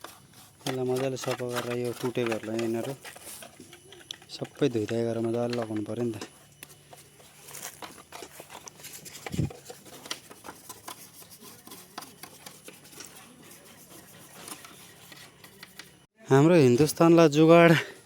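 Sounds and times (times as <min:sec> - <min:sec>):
clicks and scrapes of handled parts: 0:00.0 - 0:16.1.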